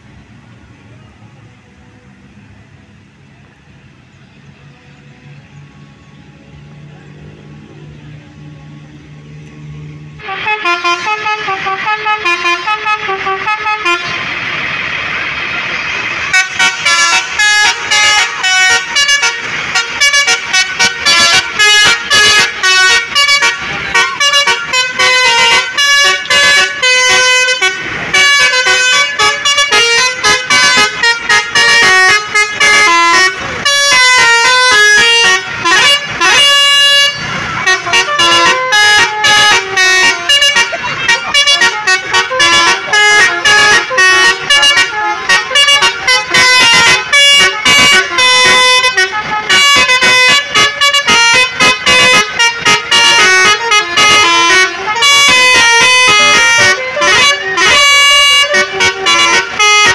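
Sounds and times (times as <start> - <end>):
multi-trumpet air horn melody: 10.2 - 14.5, 16.1 - 59.9.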